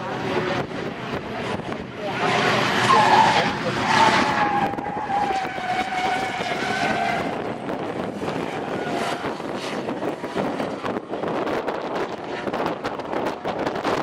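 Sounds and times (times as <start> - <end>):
car engines revving high: 0.0 - 14.0.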